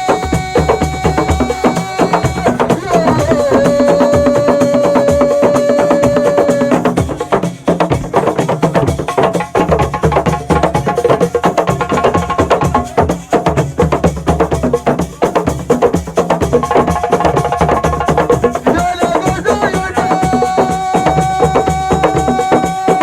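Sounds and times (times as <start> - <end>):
fast percussion music: 0.0 - 23.0.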